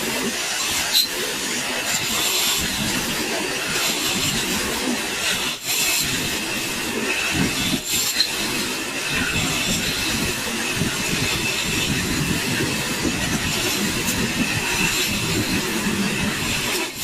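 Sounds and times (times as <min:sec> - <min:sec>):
power tool working wood: 0:00.0 - 0:17.0.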